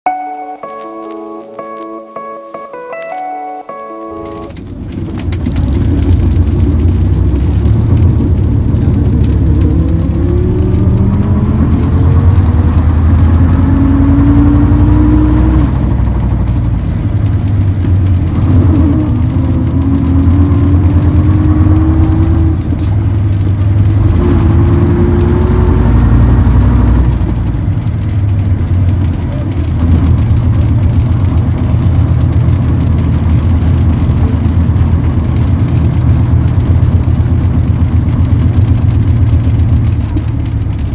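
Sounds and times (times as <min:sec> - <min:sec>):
engine whine climbing in pitch: 0:00.1 - 0:40.9
diesel bus engine rumbling: 0:03.8 - 0:40.9.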